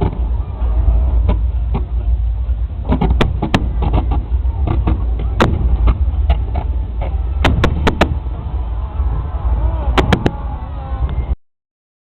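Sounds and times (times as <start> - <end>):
fireworks bangs and cracks: 0.0 - 9.1, 9.9 - 10.6
low rumble: 0.0 - 11.4.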